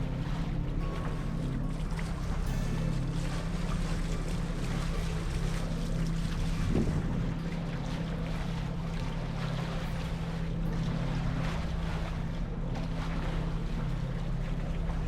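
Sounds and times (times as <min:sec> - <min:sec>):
low engine hum: 0:00.0 - 0:15.0
water rushing past hull: 0:00.0 - 0:15.0.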